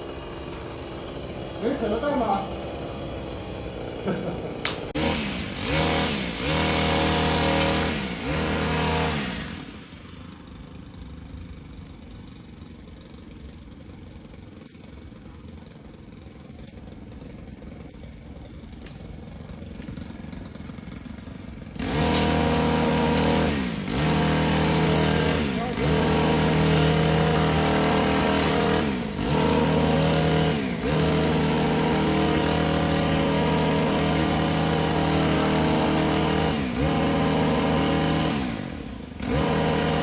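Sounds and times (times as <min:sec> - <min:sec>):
small petrol engine revving: 0:00.0 - 0:40.0.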